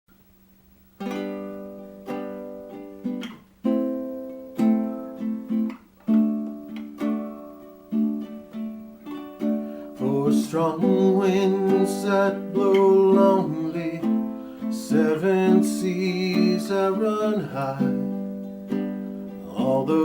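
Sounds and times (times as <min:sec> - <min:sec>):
ukulele strumming chords: 0:00.9 - 0:20.0.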